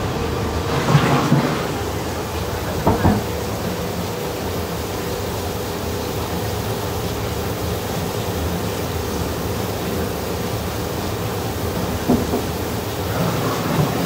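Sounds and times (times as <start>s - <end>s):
continuous rushing noise: 0.0s - 14.0s.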